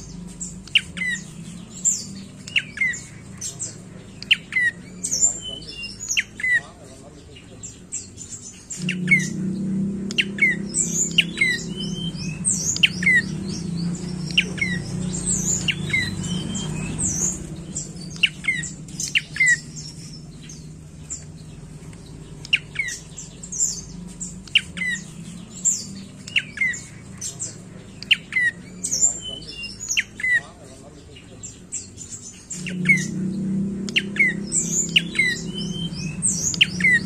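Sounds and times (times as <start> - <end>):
bird calling sharp notes: 0.0 - 6.8, 7.8 - 30.8, 31.6 - 37.0
low steady hum: 0.0 - 30.2
higher bird chirps: 0.0 - 37.0.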